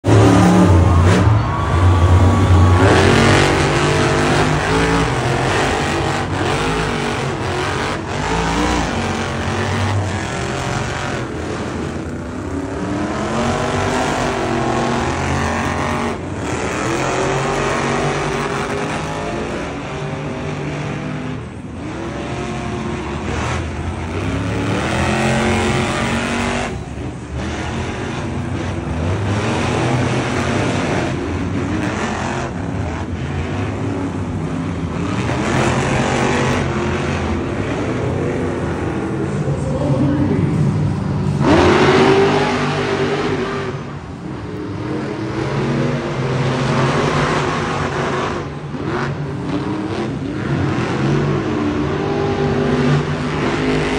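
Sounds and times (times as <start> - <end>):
truck engines revving: 0.0 - 53.9.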